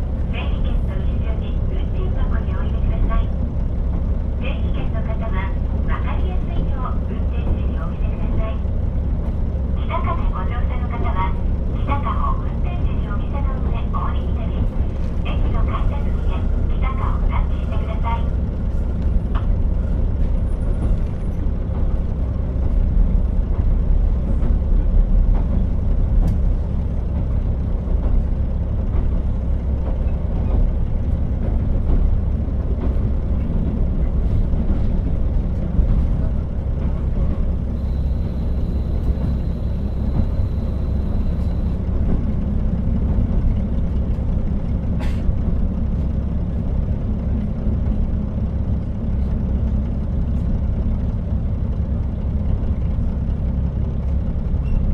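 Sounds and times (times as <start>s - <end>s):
railcar rumbling on rails: 0.0s - 54.9s.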